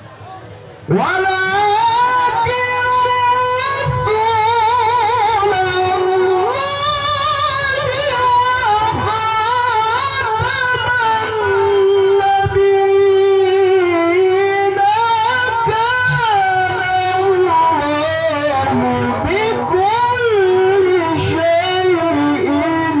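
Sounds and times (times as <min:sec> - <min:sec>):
man reciting melodically: 0:00.4 - 0:23.0.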